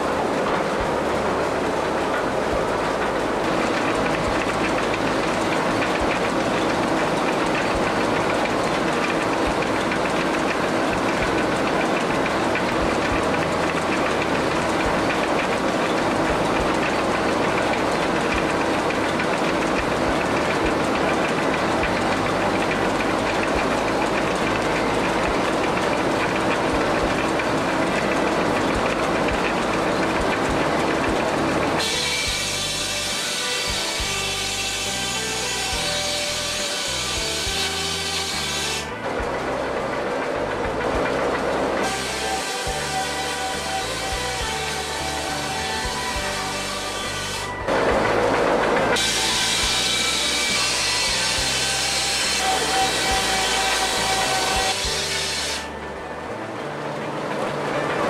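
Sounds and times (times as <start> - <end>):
circular saw cutting timber: 0.0 - 58.0
mill machinery running: 0.0 - 58.0.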